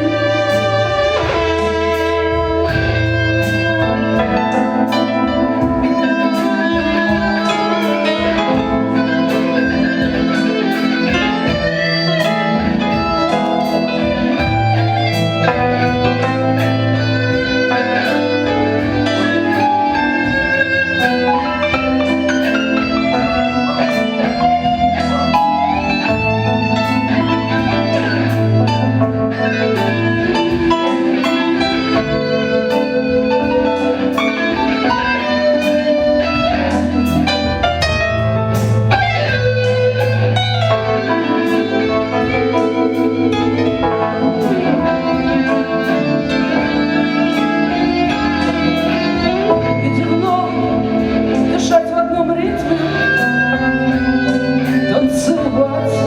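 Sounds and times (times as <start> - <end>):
guitar melody: 0.0 - 56.0
keyboards: 0.0 - 56.0
steady bass: 0.0 - 56.0.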